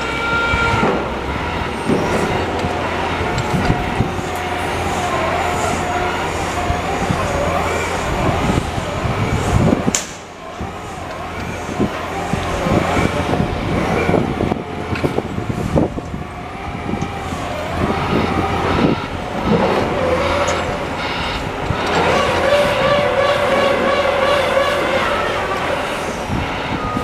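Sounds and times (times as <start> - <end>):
machinery and vehicle engines: 0.0 - 27.0
steady whine: 0.0 - 27.0.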